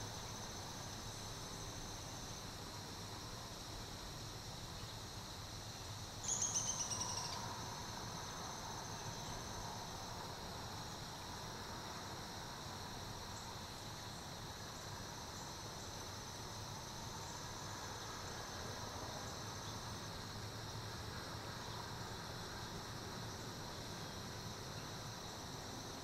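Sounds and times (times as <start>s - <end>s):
crickets and insects chirping: 0.0s - 26.0s.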